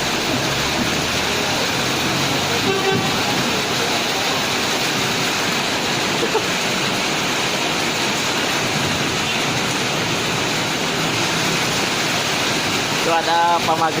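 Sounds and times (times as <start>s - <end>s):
heavy rain and hail: 0.0s - 14.0s.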